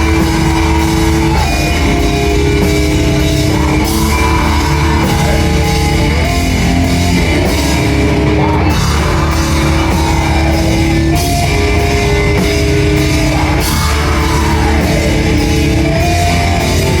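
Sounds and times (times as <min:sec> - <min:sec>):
distorted electric guitar: 0:00.0 - 0:17.0
drum kit: 0:00.0 - 0:17.0.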